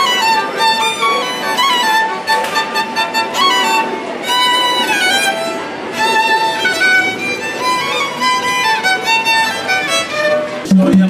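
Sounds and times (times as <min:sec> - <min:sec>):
solo violin playing: 0:00.0 - 0:10.7.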